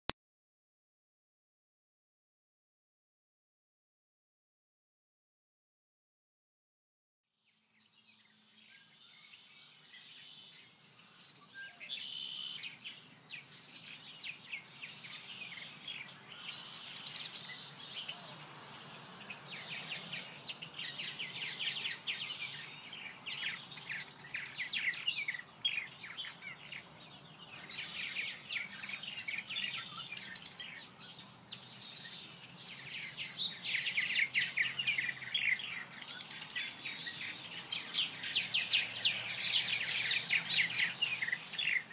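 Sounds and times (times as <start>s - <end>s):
songbirds chirping and twittering: 7.4s - 41.9s.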